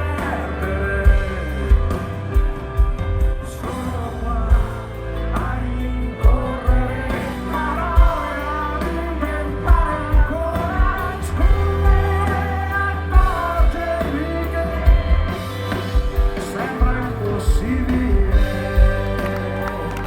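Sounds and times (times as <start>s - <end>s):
heavy bass line: 0.0s - 20.0s
pop-rock band playing: 0.0s - 20.0s.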